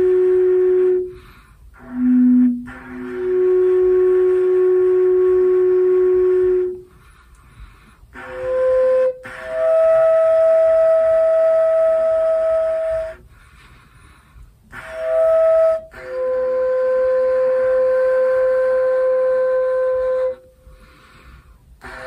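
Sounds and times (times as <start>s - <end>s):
didgeridoo high flute-like notes: 0.0s - 7.3s, 8.1s - 13.6s, 14.7s - 22.0s.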